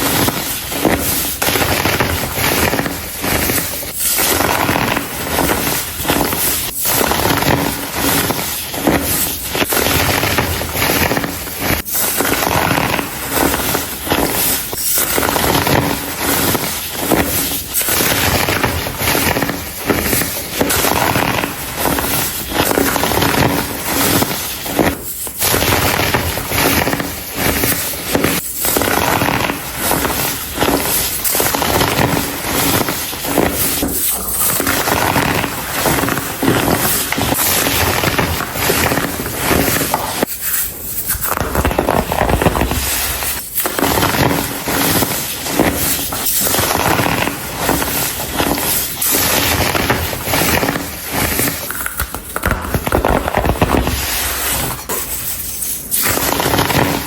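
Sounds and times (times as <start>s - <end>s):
crumble crushed with crackling crunch: 0.0s - 57.0s.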